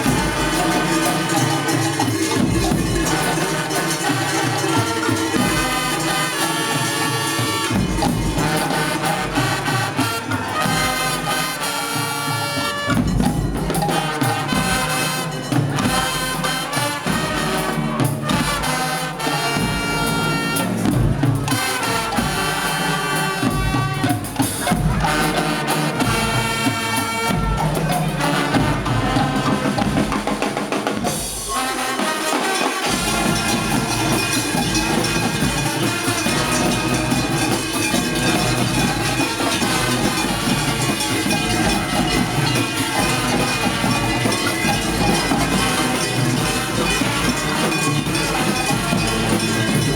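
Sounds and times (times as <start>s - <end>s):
marching band brass and drums: 0.0s - 49.9s.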